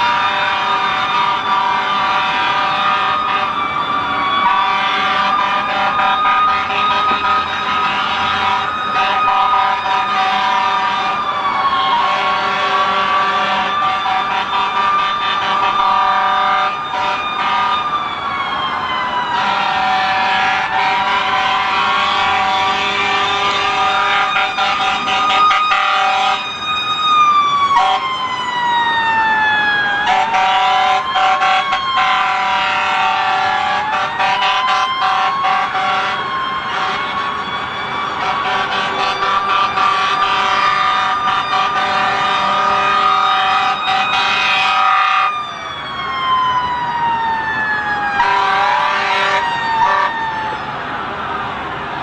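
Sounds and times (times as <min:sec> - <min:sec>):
emergency sirens wailing: 0:00.0 - 0:52.0.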